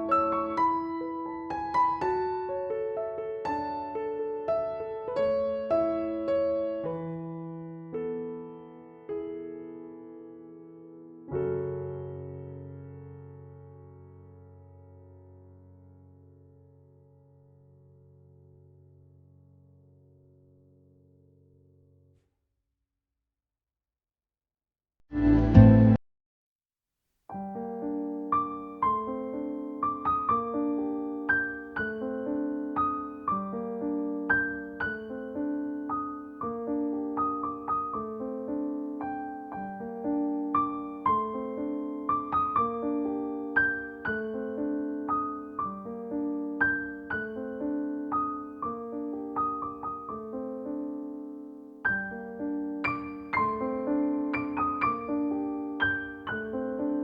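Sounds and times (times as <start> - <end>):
gentle solo piano: 0.0 - 20.8, 27.3 - 57.0.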